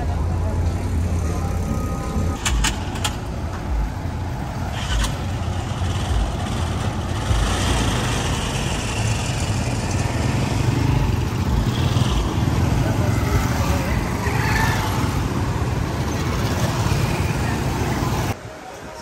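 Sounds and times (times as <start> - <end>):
engines of passing vehicles: 0.0 - 19.0
traffic rumble: 0.0 - 19.0.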